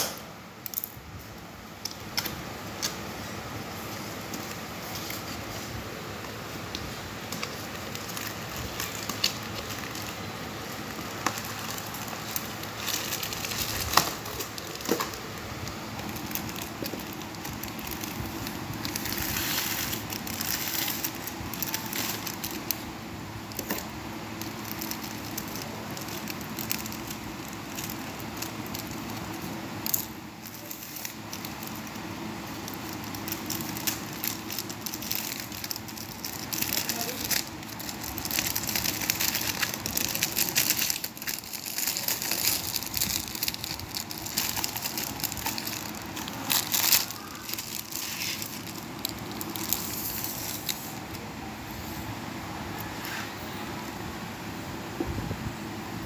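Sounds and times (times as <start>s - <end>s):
plastic film crinkling: 0.6s - 51.2s.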